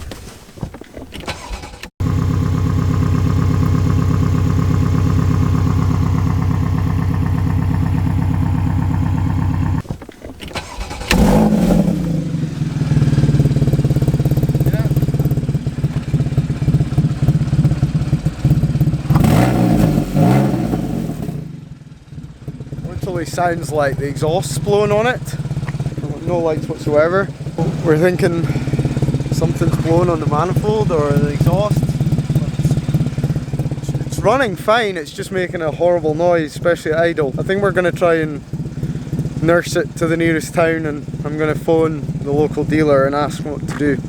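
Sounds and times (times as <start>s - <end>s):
car engine idling roughly: 1.3s - 9.8s, 10.6s - 44.0s
engine revving: 1.3s - 9.8s, 10.5s - 21.7s, 22.4s - 44.0s.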